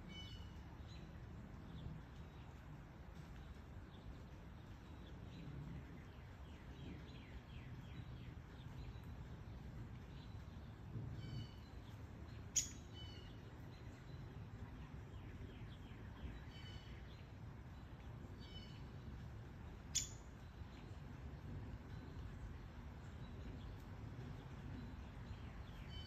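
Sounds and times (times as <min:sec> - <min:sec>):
light rain hiss: 0:00.0 - 0:26.0
songbirds chirping: 0:00.0 - 0:26.0.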